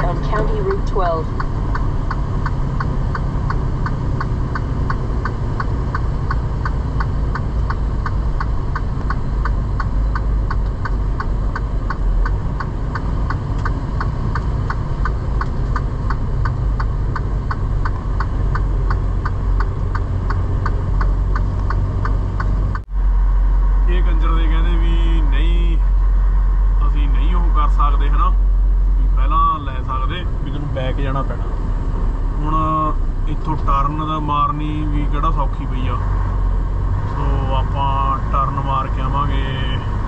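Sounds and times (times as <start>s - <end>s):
truck engine and road rumble: 0.0s - 40.0s
turn signal ticking: 0.0s - 40.0s.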